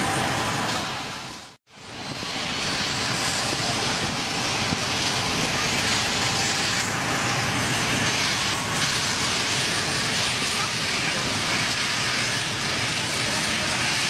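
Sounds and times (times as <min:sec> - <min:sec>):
helicopter engine and rotors: 0:00.0 - 0:14.0.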